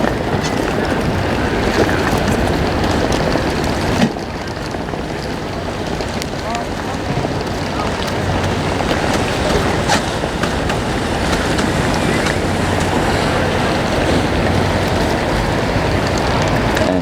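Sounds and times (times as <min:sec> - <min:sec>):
boat engine humming: 0:00.0 - 0:17.0
rushing water: 0:00.0 - 0:17.0
wind buffeting microphone: 0:00.0 - 0:17.0.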